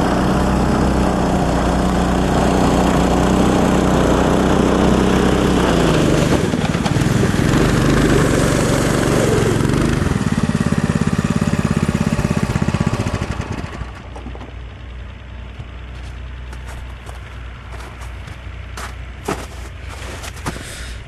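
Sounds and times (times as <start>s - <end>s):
go-kart engine running: 0.0s - 21.0s.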